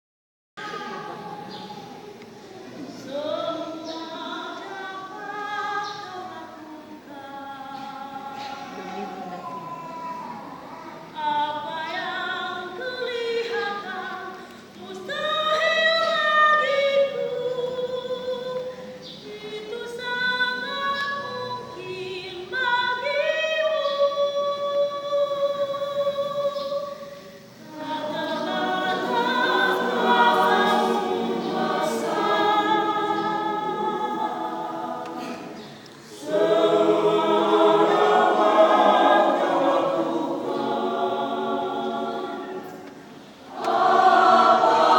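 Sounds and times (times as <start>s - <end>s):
church choir singing a hymn: 0.6s - 44.9s.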